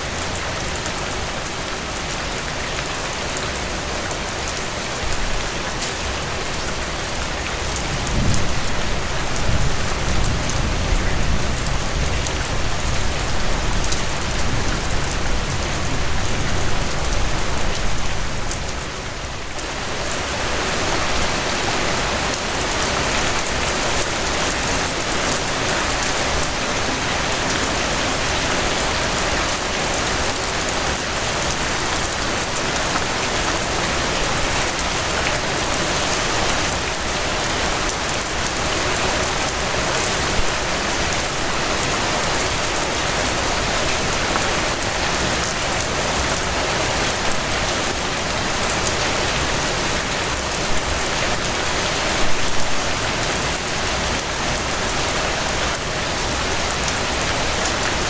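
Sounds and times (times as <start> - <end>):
steady rainfall hiss: 0.0 - 58.0.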